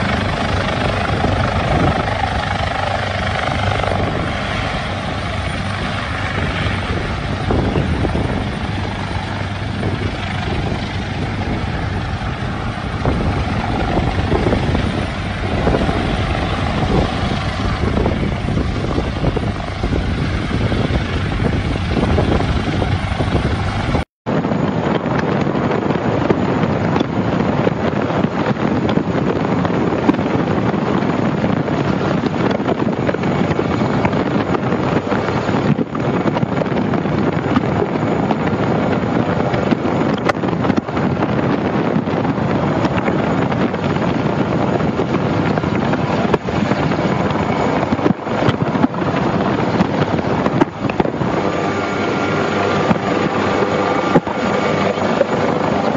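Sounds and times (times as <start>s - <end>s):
helicopter rotor beating: 0.0s - 55.9s
rush of rotor and wind: 0.0s - 55.9s
wind on microphone: 0.0s - 55.9s.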